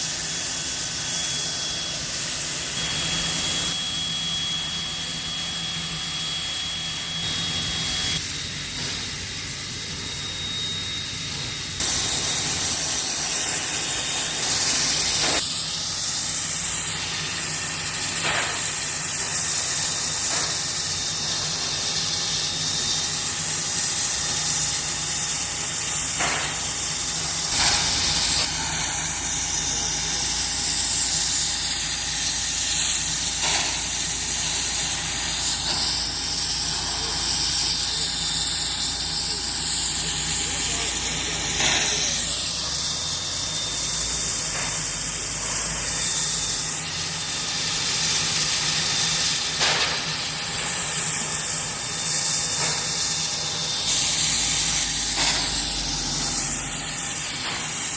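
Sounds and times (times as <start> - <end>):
steam locomotive hissing steam: 0.0 - 57.9.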